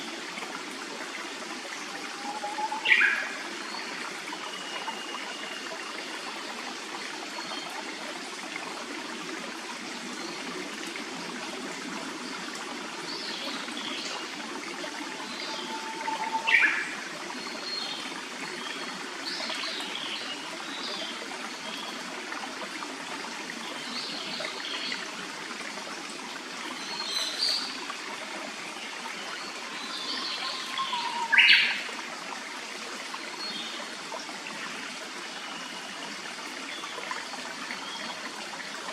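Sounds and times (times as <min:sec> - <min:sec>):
forest stream running: 0:00.0 - 0:38.9.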